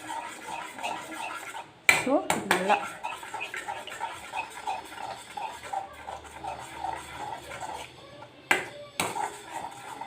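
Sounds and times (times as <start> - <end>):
spatula scraping frying pan: 0.0 - 10.0.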